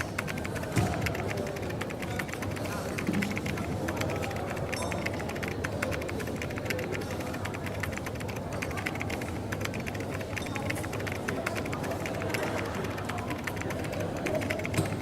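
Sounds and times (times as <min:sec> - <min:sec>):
light clicking and clatter: 0:00.0 - 0:15.0
murmur of voices: 0:00.0 - 0:15.0.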